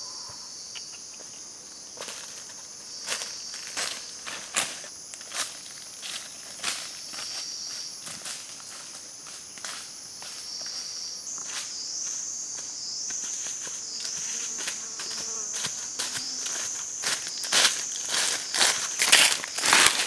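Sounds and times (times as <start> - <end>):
high-pitched insect chorus: 0.0 - 20.0
footsteps crunching dry leaves: 1.9 - 10.6, 11.3 - 20.0.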